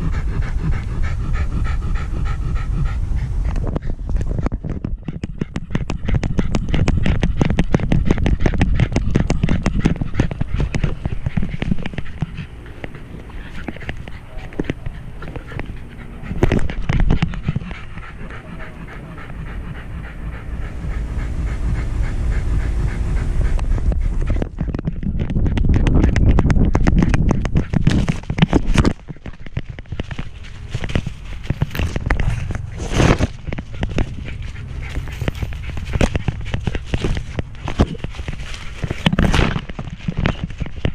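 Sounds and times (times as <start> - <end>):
dog panting hard: 0.0 - 40.9.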